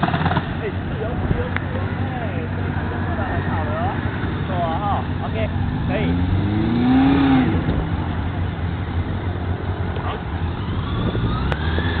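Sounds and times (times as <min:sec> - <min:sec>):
motorcycle engine idling: 0:00.0 - 0:06.2, 0:07.6 - 0:12.0
engine accelerating: 0:00.0 - 0:12.0.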